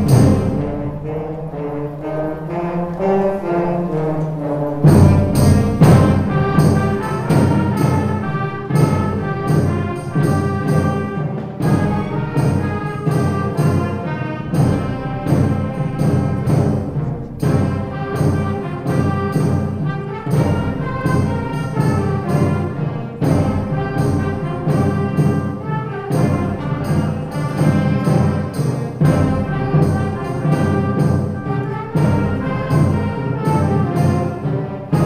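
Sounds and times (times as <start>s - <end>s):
percussion strokes: 0.0s - 35.0s
wind band playing: 0.0s - 35.0s.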